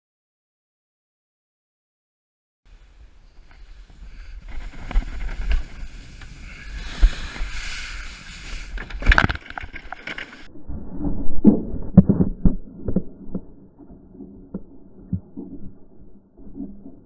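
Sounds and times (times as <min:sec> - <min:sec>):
canoe hull scraping: 0:03.2 - 0:17.0.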